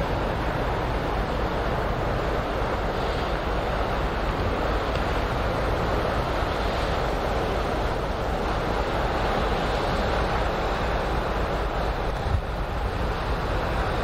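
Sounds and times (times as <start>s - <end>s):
ship wake water wash: 0.0s - 14.0s
wind on microphone: 0.0s - 14.0s.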